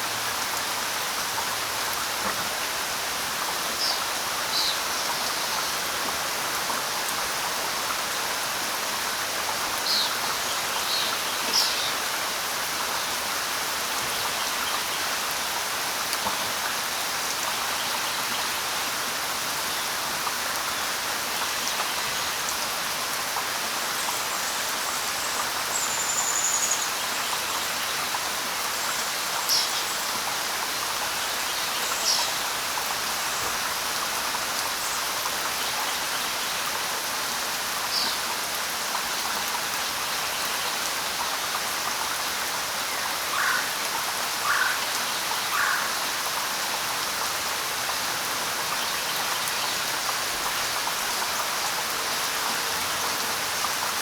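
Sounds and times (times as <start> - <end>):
light rain on leaves: 0.0 - 54.0.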